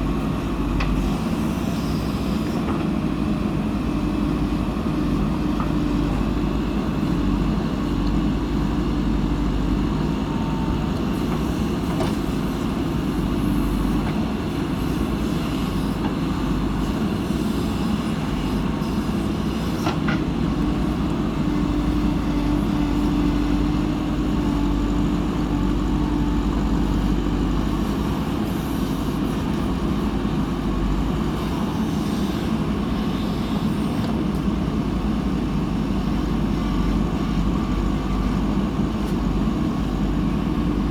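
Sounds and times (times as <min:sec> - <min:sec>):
diesel engine droning: 0:03.1 - 0:40.9.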